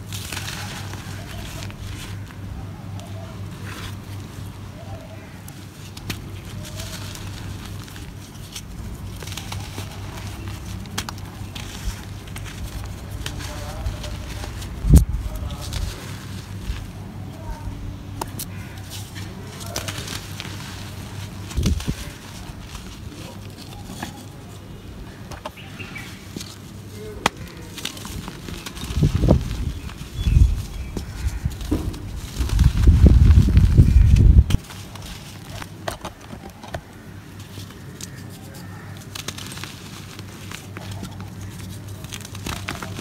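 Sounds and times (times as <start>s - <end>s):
clay pieces cracking: 0.0s - 4.5s, 5.2s - 17.0s, 17.8s - 43.0s
dry clay crunching in hands: 0.0s - 43.0s.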